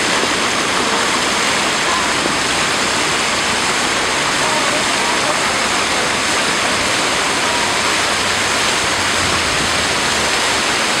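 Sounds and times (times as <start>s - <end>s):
fountain water rushing: 0.0s - 11.0s.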